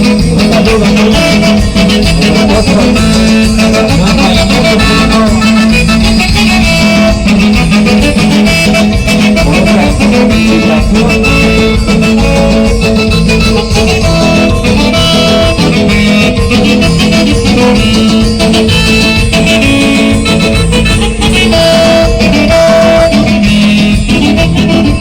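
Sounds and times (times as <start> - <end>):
band playing dance music: 0.0 - 25.0
guitar: 0.0 - 25.0.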